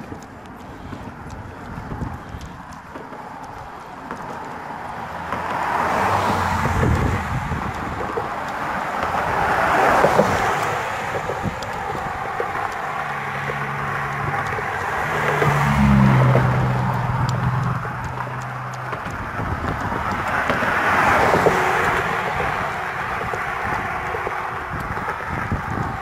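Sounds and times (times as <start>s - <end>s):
wind on microphone: 0.0s - 3.8s, 5.8s - 26.0s
cars passing: 0.0s - 26.0s
low engine hum: 0.0s - 26.0s.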